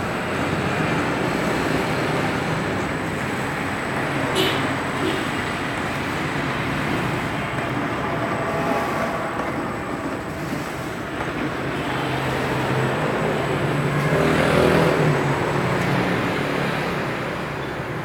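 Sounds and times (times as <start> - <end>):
machinery humming and whirring: 0.0 - 18.0.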